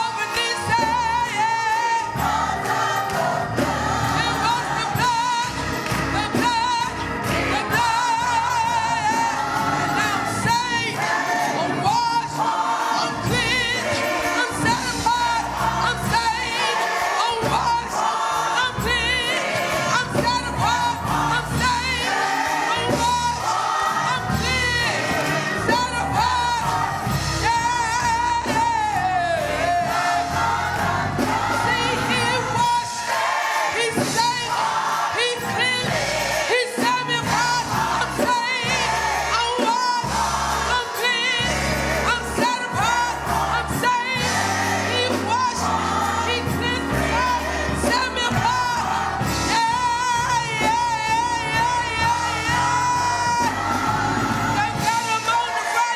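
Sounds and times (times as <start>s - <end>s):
instrumental backing: 0.0s - 55.9s
singing with vibrato: 0.0s - 55.9s.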